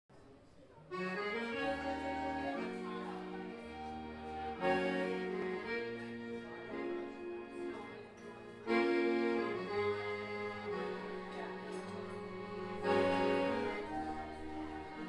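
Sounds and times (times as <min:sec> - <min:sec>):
accordion bass line: 0:00.9 - 0:15.0
piano accordion chords: 0:00.9 - 0:15.0.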